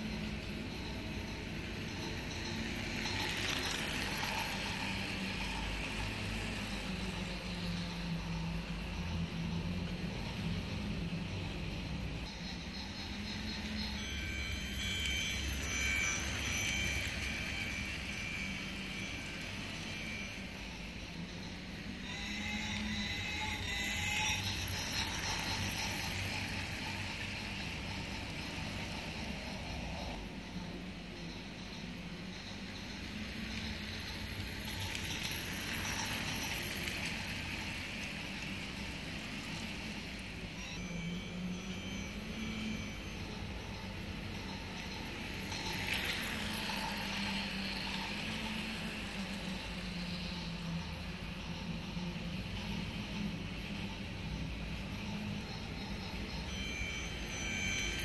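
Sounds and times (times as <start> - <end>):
toy train running on track: 0.0 - 58.0.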